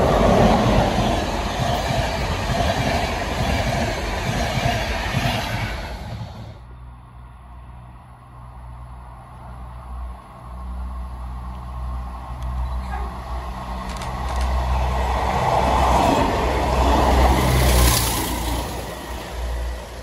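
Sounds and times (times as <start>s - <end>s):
train wheel and rail noise: 0.0s - 20.0s.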